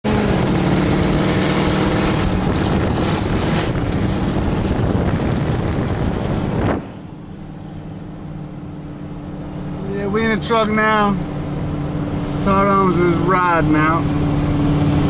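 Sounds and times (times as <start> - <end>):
truck engine running loud: 0.0 - 15.0.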